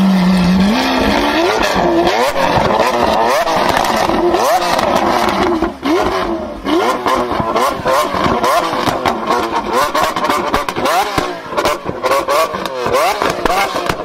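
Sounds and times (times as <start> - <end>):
car engine revving: 0.0 - 14.0
exhaust pops and crackles: 0.1 - 14.0.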